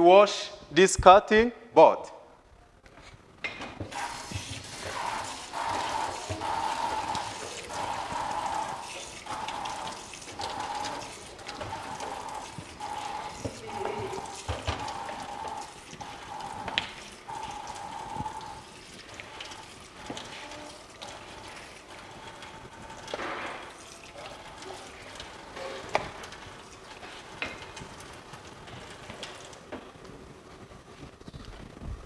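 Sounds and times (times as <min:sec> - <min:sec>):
tap water running into sink: 0:03.7 - 0:29.9.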